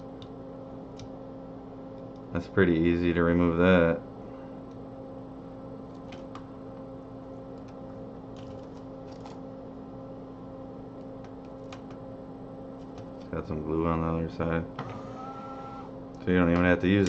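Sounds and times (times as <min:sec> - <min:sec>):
extractor fan humming: 0:00.0 - 0:17.0.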